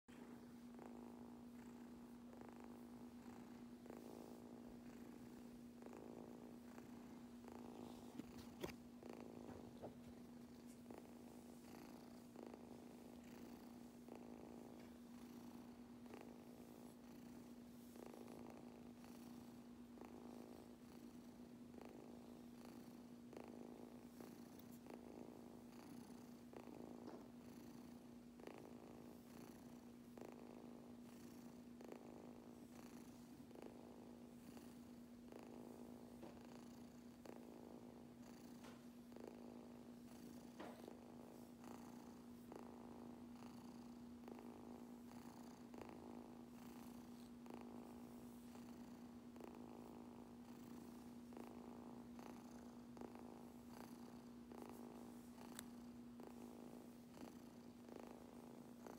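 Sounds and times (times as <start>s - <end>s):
kitten purring: 0.1s - 58.9s.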